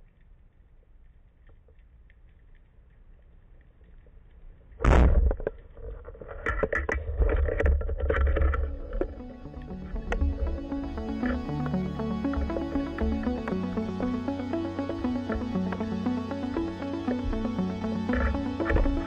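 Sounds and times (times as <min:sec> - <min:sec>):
faint underwater clicking: 0:00.0 - 0:19.0.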